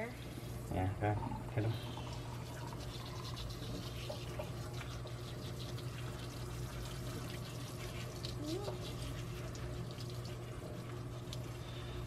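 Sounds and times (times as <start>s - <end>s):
steady low hum: 0.0s - 12.0s
sink sprayer water hissing: 1.7s - 11.4s.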